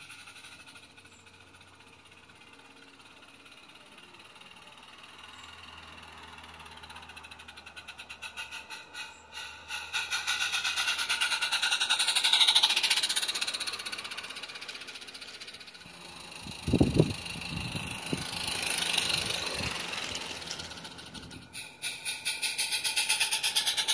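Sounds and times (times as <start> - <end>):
steam locomotive chuffing: 0.0 - 23.9.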